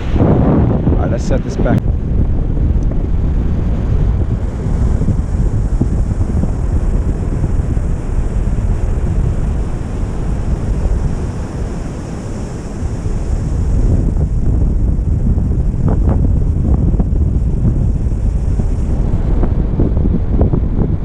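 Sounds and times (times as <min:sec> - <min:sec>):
surf on the beach: 0:00.0 - 0:21.0
wind buffeting microphone: 0:00.0 - 0:21.0.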